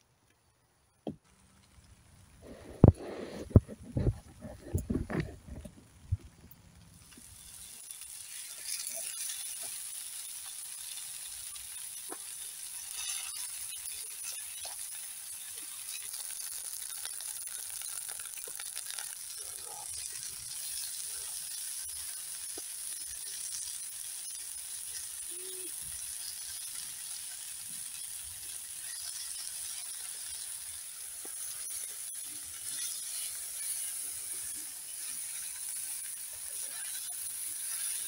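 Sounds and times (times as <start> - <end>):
campfire crackles: 0.0 - 38.0
food sizzling in a frying pan: 1.3 - 38.0.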